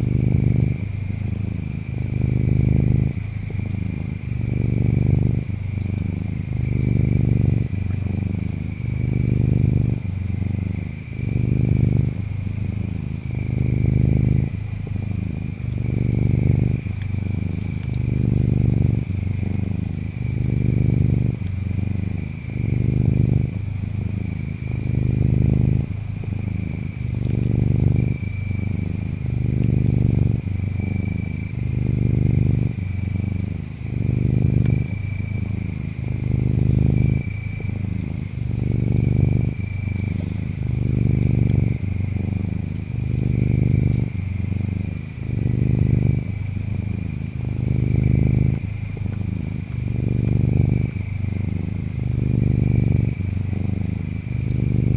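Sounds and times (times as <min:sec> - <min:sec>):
cat purring: 0:00.0 - 0:54.9
insects chirping: 0:00.0 - 0:54.9.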